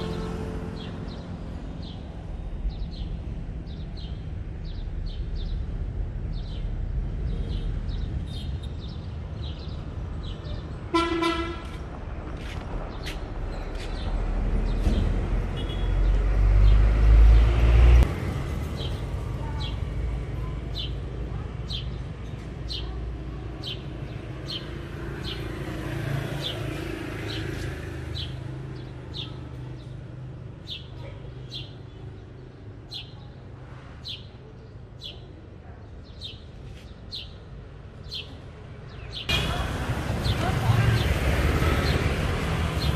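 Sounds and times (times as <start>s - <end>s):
passing traffic rumble: 0.0s - 42.9s.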